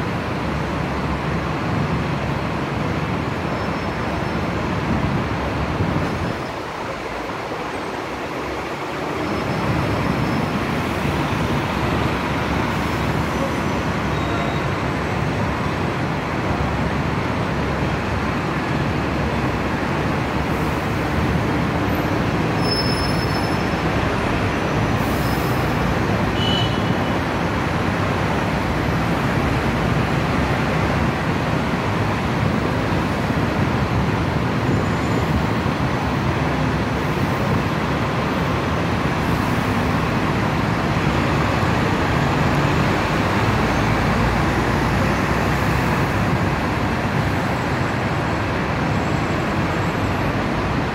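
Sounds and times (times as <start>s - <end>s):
heavy street traffic roar: 0.0s - 50.9s.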